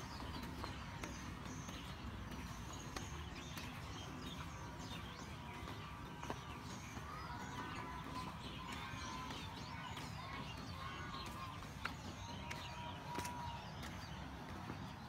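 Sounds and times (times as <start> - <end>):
birds chirping: 0.0 - 15.0
footsteps on dirt path: 0.0 - 15.0.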